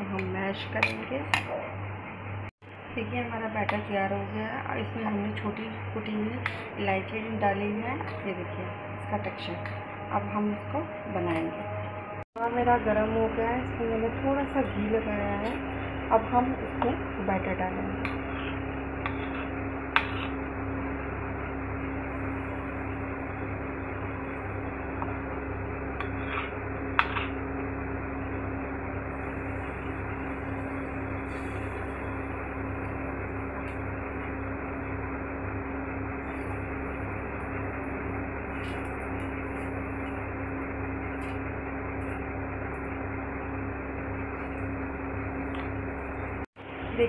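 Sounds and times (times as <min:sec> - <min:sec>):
kitchen hum and hiss: 0:00.0 - 0:47.0.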